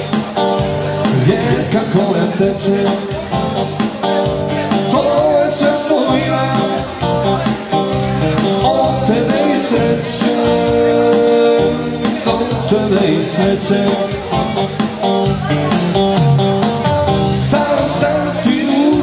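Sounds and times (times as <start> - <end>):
keyboard melody with backing accompaniment: 0.0 - 19.0.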